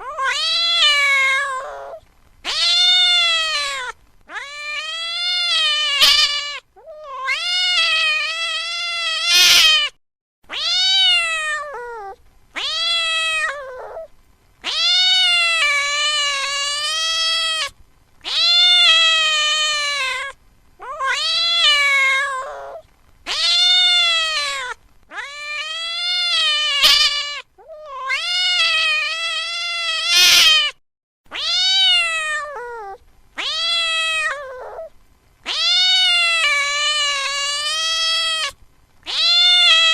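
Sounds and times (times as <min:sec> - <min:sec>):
cat meowing: 0:00.0 - 0:39.9.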